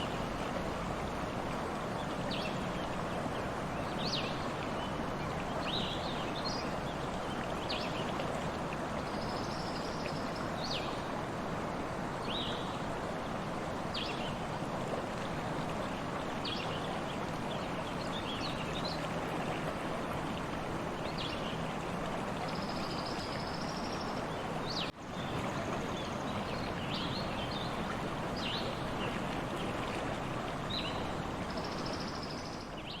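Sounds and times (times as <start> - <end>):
stream running: 0.0 - 33.0.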